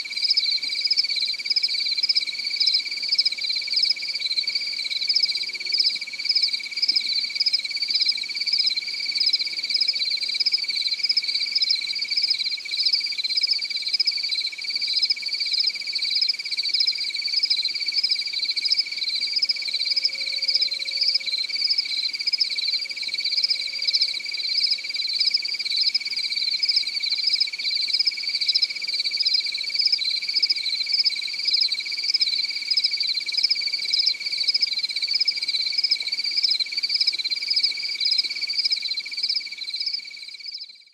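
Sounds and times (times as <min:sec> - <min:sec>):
crickets trilling: 0:00.0 - 0:40.8
pulsing cricket chirping: 0:00.0 - 0:40.8.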